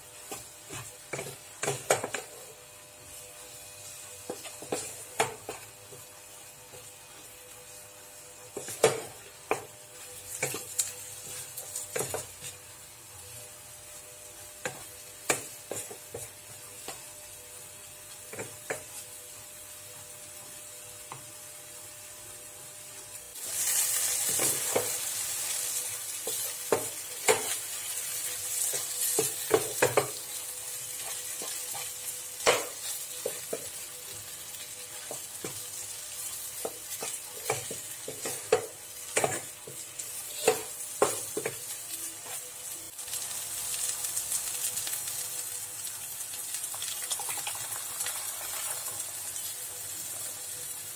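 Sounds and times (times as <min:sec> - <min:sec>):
chicken sizzling in a pan: 0:00.0 - 0:50.9.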